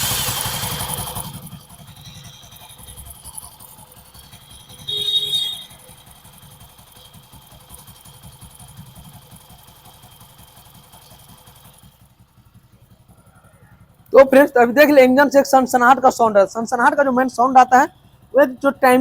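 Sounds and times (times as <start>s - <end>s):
motorcycle engine idling with whine: 0.0s - 19.0s.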